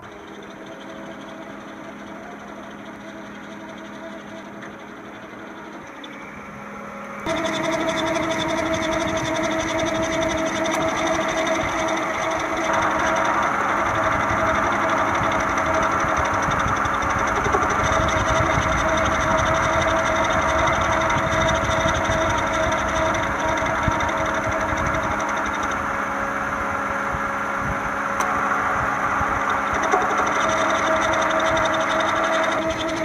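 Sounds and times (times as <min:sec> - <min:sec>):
car engine rumble: 0:00.0 - 0:33.0
drive belt whine: 0:00.0 - 0:33.0.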